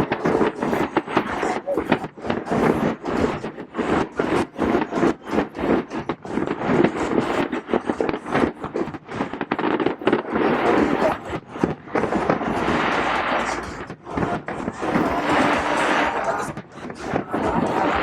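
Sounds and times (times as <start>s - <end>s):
crowd voices: 0.0s - 18.0s
fireworks bangs and crackle: 0.0s - 18.0s.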